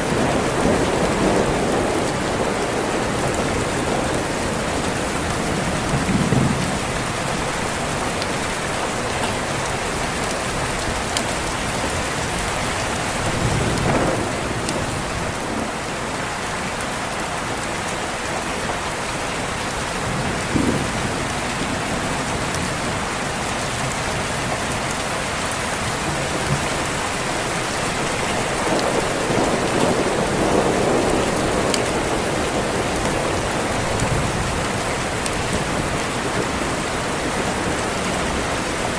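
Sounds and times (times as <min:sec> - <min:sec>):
distant thunder rumbling: 0:00.0 - 0:15.9, 0:20.0 - 0:38.9
heavy rain: 0:00.0 - 0:38.9.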